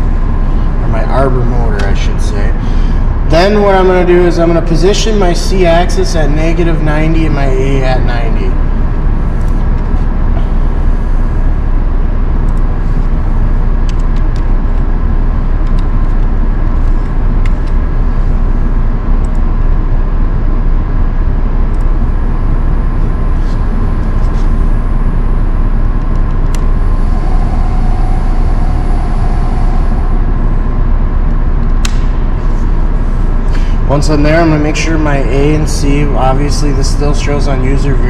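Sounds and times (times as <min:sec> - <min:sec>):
high machine whine: 0:00.0 - 0:38.0
machinery hum and rumble: 0:00.0 - 0:38.0.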